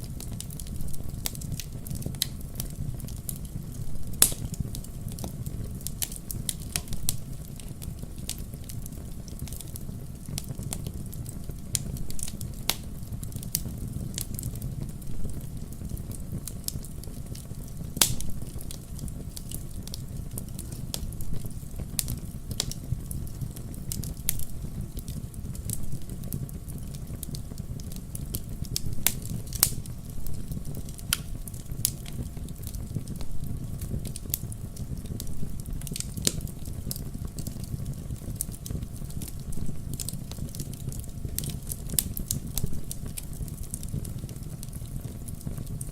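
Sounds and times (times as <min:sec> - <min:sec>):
burning wood crackling and popping: 0:00.0 - 0:45.9
campfire flame rumble: 0:00.0 - 0:45.9.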